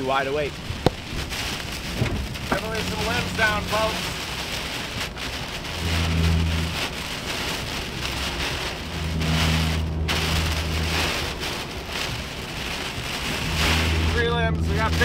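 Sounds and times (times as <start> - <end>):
heavy rain beating on vehicle: 0.0 - 15.0
strong wind: 0.3 - 15.0
low drone: 0.5 - 4.5, 5.7 - 15.0.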